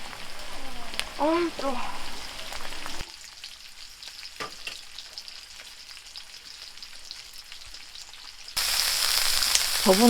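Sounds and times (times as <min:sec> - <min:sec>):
fat sizzling in a hot pan: 0:00.0 - 0:10.0.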